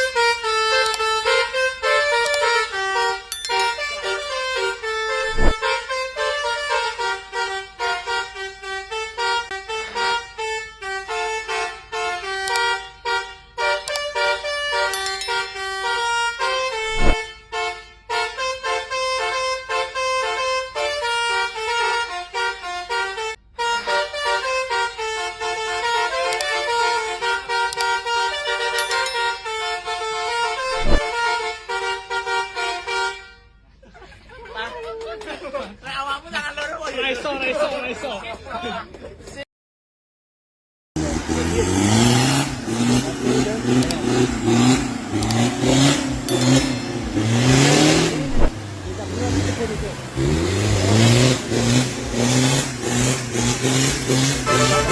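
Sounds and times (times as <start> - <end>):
multi-tone bus horn melody: 0.0 - 33.8, 41.0 - 54.9.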